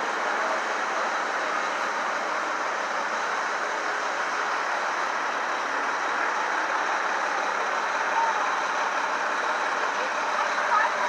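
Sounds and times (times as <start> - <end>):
city traffic rush: 0.0 - 11.0.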